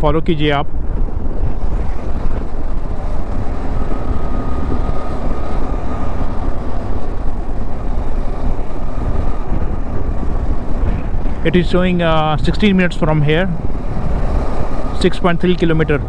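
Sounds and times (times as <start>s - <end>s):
wind on microphone: 0.0s - 16.0s
motorcycle engine: 0.7s - 16.0s.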